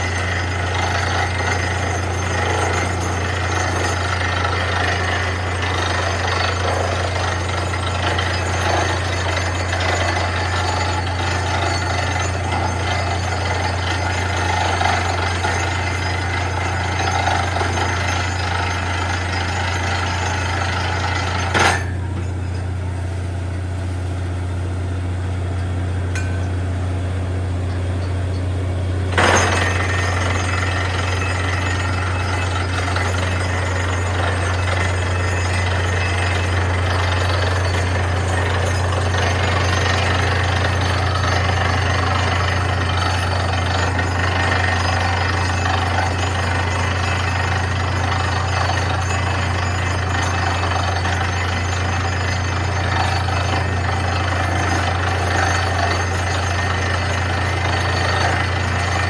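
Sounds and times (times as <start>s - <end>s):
percussive drilling rattle: 0.0s - 22.0s, 29.1s - 59.0s
drilling rig engine drone: 0.0s - 59.0s.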